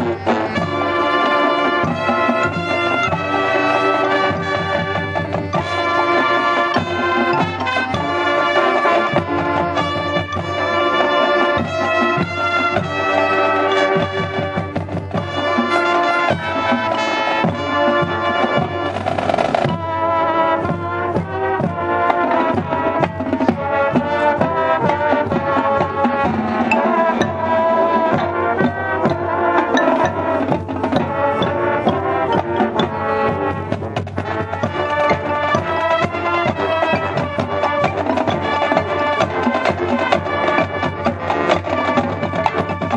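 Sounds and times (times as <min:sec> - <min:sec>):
marching band playing: 0:00.0 - 0:42.9.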